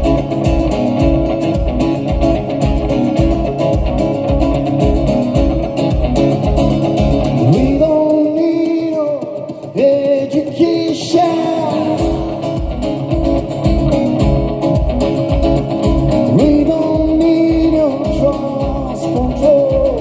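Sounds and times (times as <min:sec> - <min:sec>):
band music with guitars: 0:00.0 - 0:20.0.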